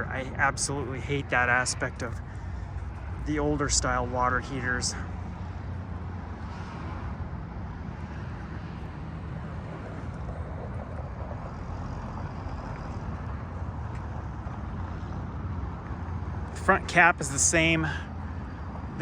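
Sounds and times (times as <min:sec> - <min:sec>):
freeway traffic rumble: 0:00.0 - 0:19.0.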